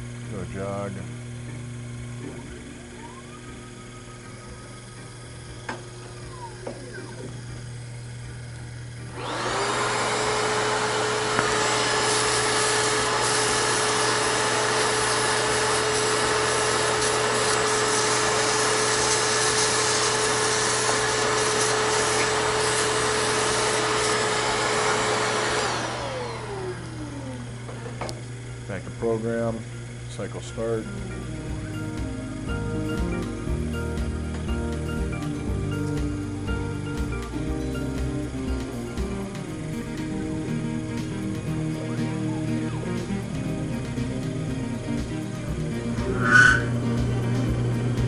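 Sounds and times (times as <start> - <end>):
shop vac motor whining: 0.0 - 48.0.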